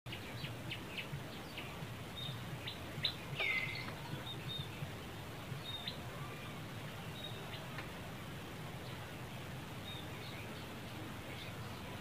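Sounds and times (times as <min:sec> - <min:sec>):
birds chirping: 0:00.1 - 0:12.0
low steady background rumble: 0:00.1 - 0:12.0.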